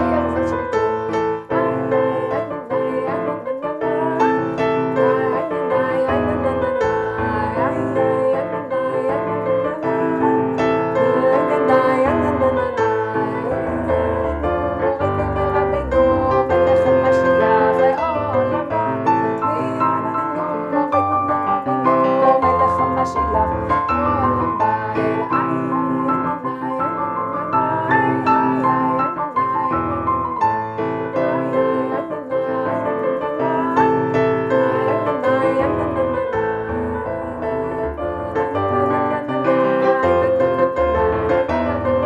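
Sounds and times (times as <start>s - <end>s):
electric piano melody over chords: 0.0s - 42.0s.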